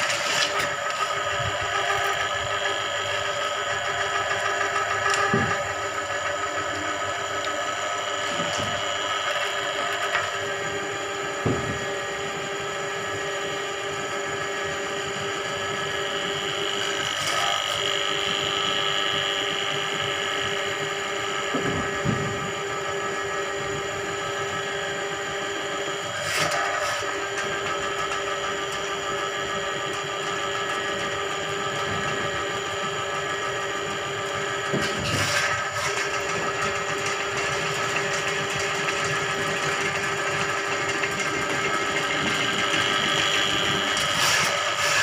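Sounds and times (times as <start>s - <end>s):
drain-cleaning machine running: 0.0s - 45.0s.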